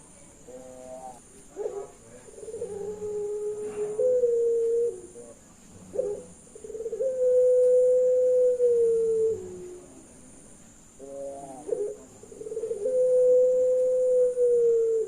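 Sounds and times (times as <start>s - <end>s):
dove cooing: 0.0s - 10.1s, 11.0s - 15.0s.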